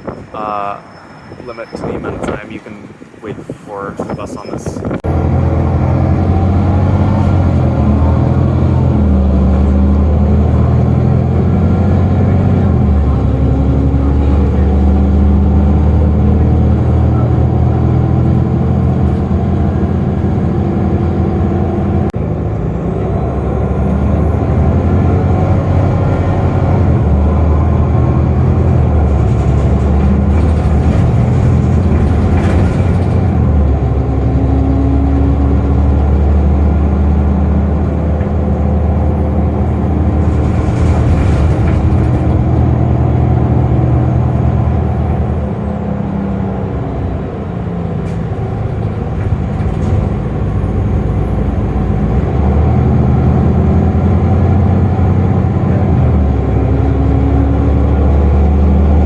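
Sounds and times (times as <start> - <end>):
bus engine hum: 0.0 - 59.0.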